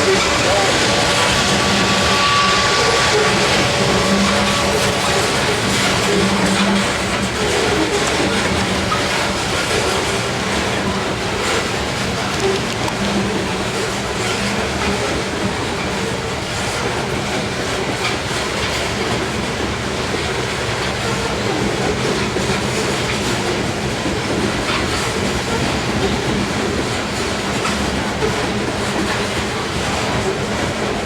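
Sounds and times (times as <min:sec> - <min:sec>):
freight train rumbling past: 0:00.0 - 0:31.0
wheels clicking over track: 0:00.0 - 0:31.0.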